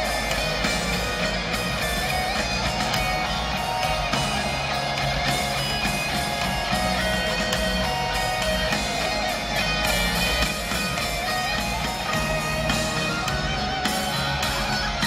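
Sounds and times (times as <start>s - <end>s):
live heavy metal band: 0.0s - 15.0s.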